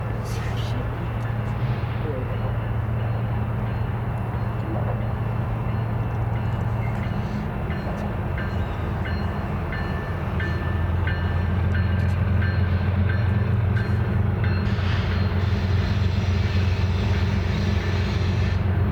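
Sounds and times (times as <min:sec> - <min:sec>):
train running by: 0:00.0 - 0:18.9.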